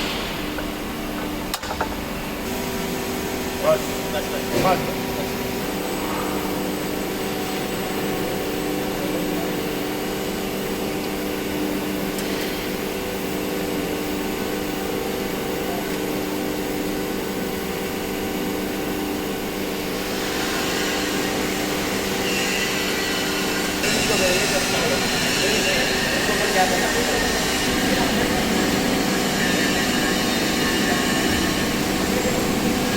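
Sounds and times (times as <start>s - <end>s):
electric motor and pump humming: 0.0s - 32.9s.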